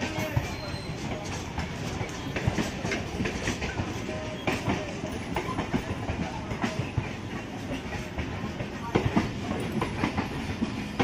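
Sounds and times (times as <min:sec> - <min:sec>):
train wheels clattering over rail joints: 0:00.0 - 0:11.0.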